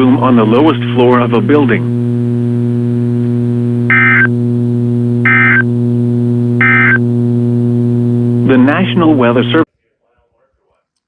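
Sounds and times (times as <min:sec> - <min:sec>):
low buzzing hum: 0:00.0 - 0:09.7.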